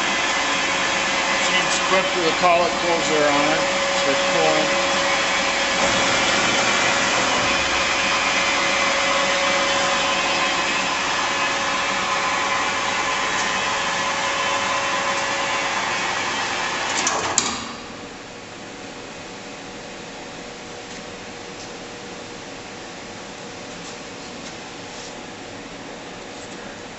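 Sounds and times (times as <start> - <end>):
lathe machine whir and hum: 0.0 - 26.9.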